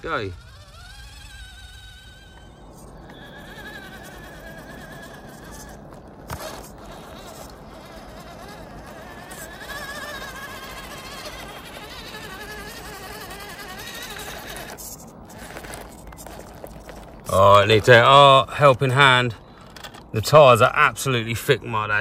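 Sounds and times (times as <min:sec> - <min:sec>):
toy car electric motor whining: 0:00.0 - 0:20.1.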